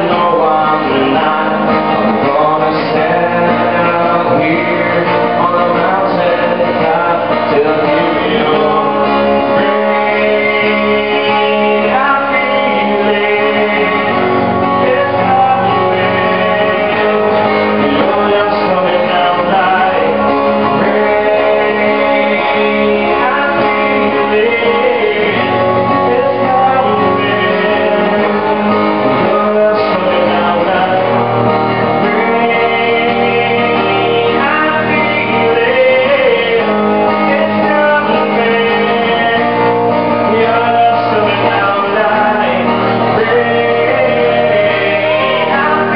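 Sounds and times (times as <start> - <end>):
person singing: 0.0 - 45.9
plucked guitar: 0.0 - 45.9.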